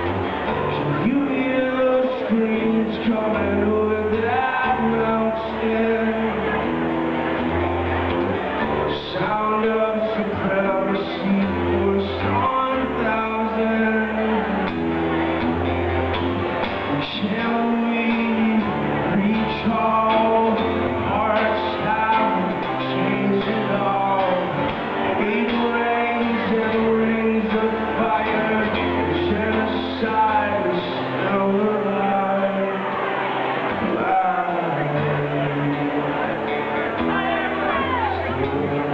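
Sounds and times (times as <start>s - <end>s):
sustained rock chords: 0.0s - 38.9s.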